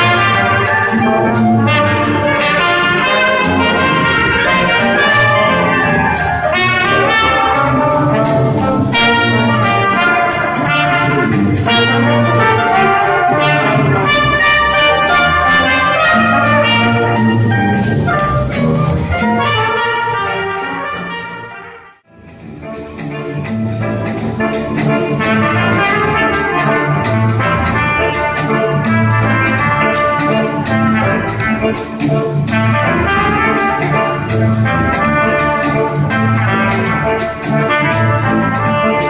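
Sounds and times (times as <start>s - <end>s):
brass band playing: 0.0s - 39.0s
steady percussion beat: 0.0s - 39.0s.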